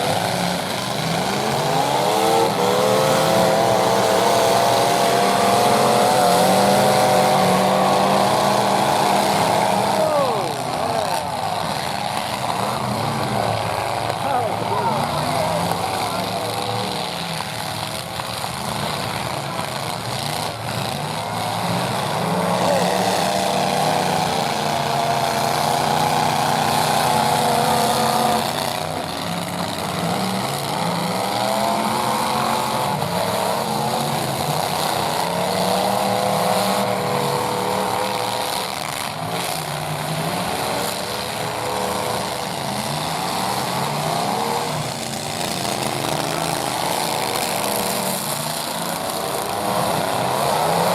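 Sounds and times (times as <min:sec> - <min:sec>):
pickup truck engines revving: 0:00.0 - 0:50.9.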